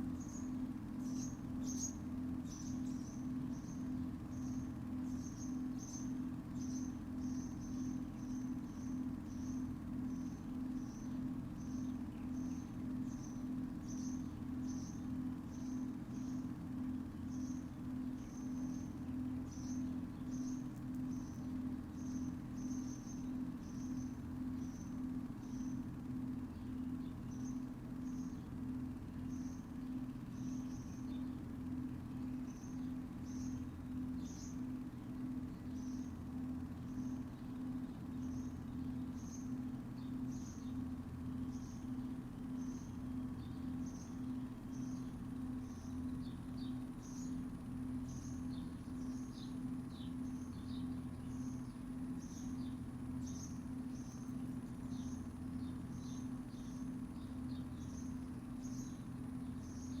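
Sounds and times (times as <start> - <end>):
faint high whine: 0.0 - 60.0
steady low hum: 0.0 - 60.0
bird chirping: 0.1 - 16.5, 17.2 - 25.8, 35.5 - 60.0.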